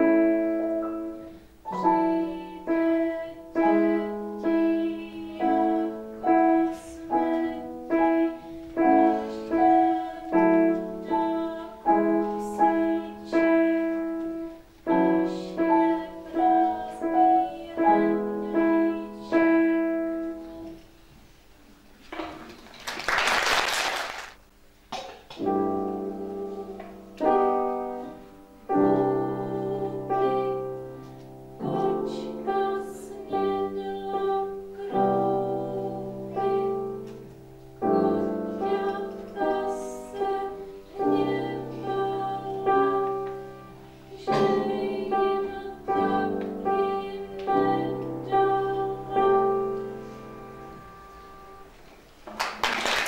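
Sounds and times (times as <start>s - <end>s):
piano chords: 0.0s - 20.8s, 25.4s - 51.8s.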